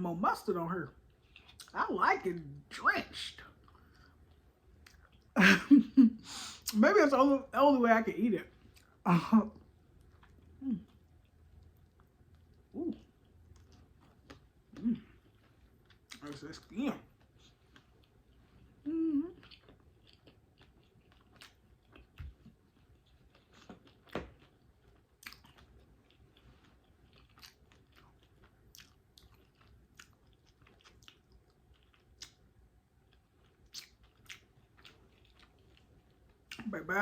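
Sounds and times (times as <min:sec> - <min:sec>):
person chewing sausage: 0:00.9 - 0:01.8, 0:03.2 - 0:05.4, 0:08.5 - 0:36.8.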